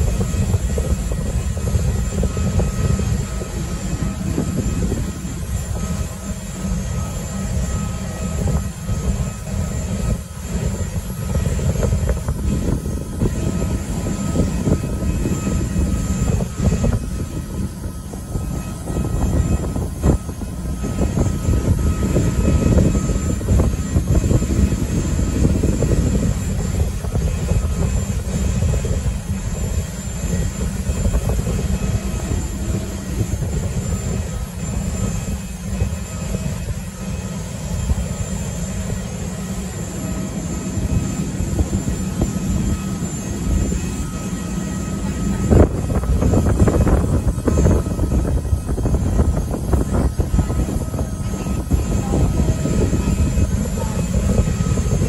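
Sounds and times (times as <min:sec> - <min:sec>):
jet airliner rumble and whine: 0:00.0 - 0:55.0.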